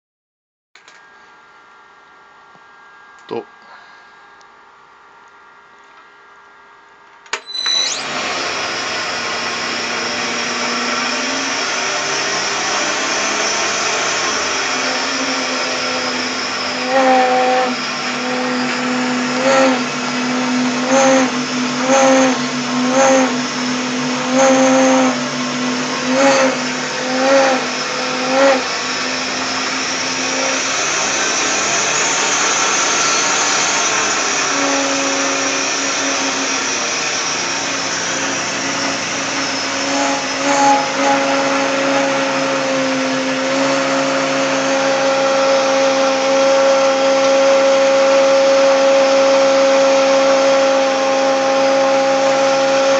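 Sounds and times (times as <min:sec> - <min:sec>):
milling machine running: 0:07.3 - 0:52.9
loud pitched machine groan: 0:08.0 - 0:52.9.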